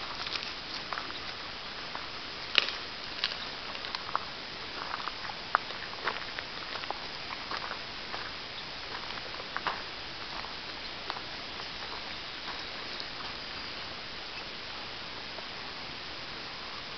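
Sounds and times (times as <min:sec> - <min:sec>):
gravel crunching under dogs: 0:00.0 - 0:14.1.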